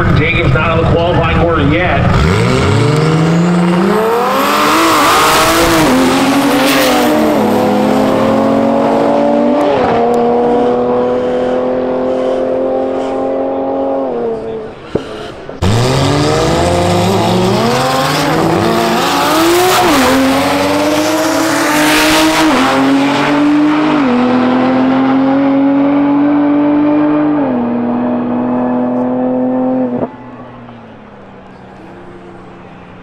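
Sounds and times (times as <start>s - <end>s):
race car engines accelerating: 0.0s - 33.0s.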